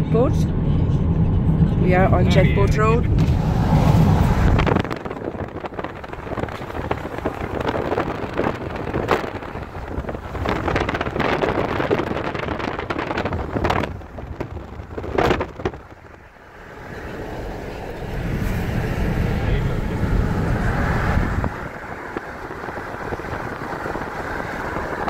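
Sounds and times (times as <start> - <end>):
car rumbling on road: 0.0 - 25.0
wind buffeting microphone: 0.0 - 25.0.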